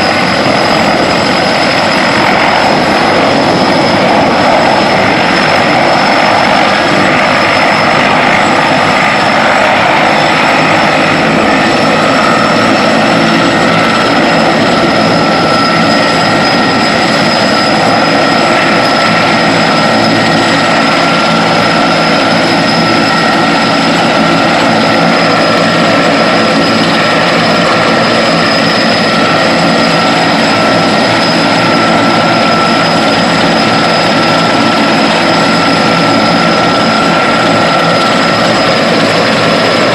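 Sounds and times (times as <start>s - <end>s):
helicopter engine roaring: 0.0s - 39.9s
high turbine whine: 0.0s - 39.9s.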